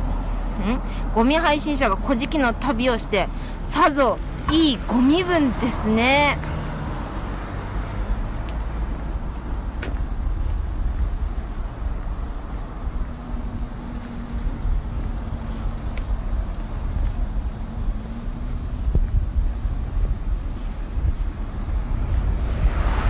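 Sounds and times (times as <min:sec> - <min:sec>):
crickets trilling: 0:00.0 - 0:23.0
low rumbling noise: 0:00.0 - 0:23.0.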